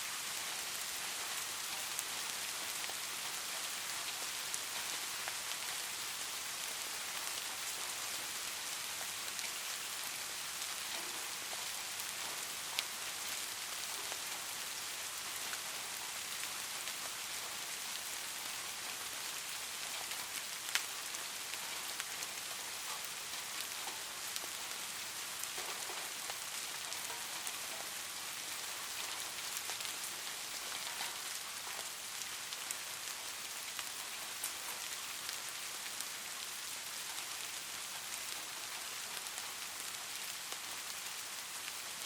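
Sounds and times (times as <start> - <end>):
light rain falling: 0.0 - 42.0.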